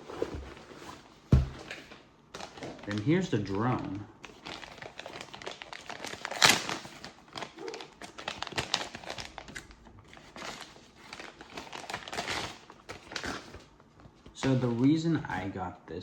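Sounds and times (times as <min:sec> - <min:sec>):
packaging crinkling: 0:00.2 - 0:15.4.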